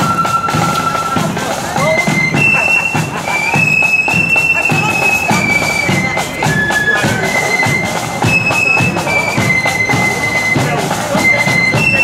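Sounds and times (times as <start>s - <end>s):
shrill flutes in unison: 0.0s - 12.0s
steady drum beats: 0.0s - 12.0s.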